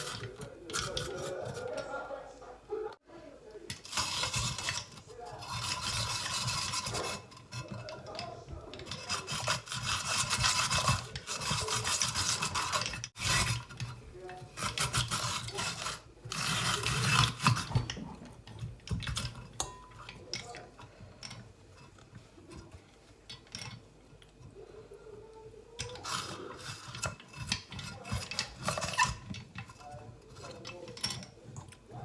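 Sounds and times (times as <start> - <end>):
hand-cranked grinder shredding vegetables: 0.0 - 2.2, 3.5 - 32.0.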